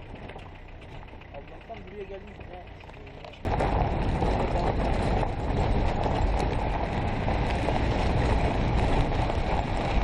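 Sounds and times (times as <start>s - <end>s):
steady low rumbling: 0.0s - 10.0s.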